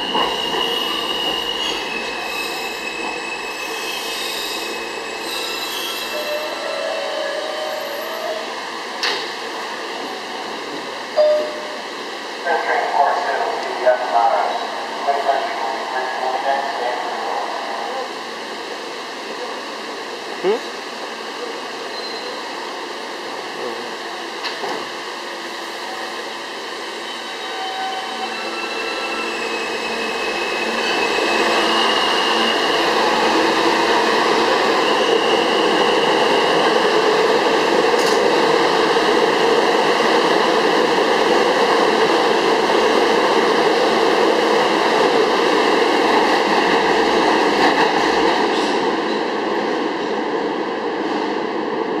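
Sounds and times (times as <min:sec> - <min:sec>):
subway train electric whine: 0:00.0 - 0:52.0
train running and wheel noise: 0:00.0 - 0:52.0.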